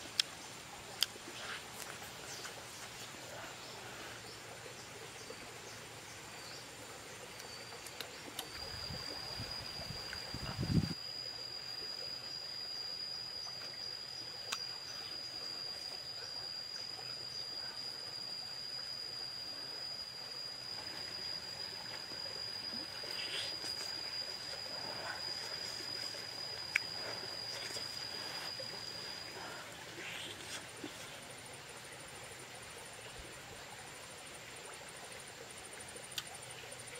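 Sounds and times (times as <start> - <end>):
steady high-pitched tone: 0.0 - 36.9
stream trickling: 0.0 - 36.9.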